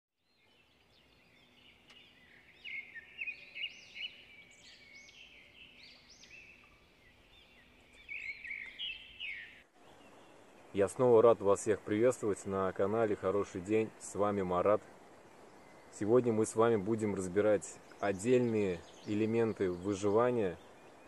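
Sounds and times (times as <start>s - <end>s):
birds chirping: 0.2s - 21.0s.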